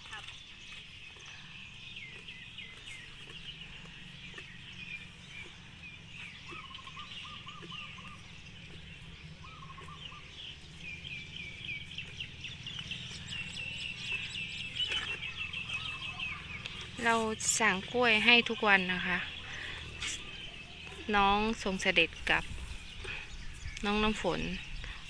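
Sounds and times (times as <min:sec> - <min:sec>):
low background rumble: 0:00.0 - 0:25.0
low repeated bird call: 0:00.0 - 0:25.0
small birds chirping: 0:00.0 - 0:25.0.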